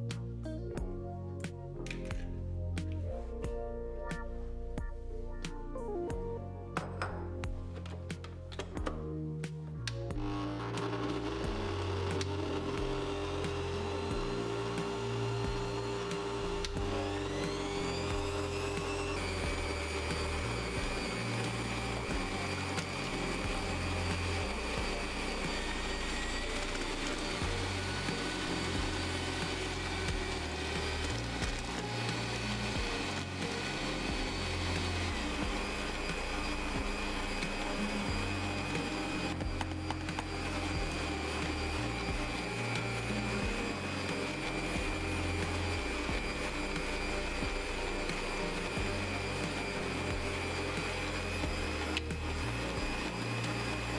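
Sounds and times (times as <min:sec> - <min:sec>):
hand mixer whisking: 0:10.1 - 0:53.9
stand mixer whine: 0:10.2 - 0:53.9.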